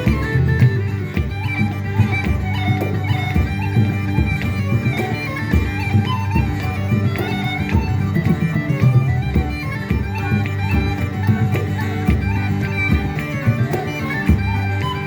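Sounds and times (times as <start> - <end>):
bagpipe music: 0.0 - 15.0.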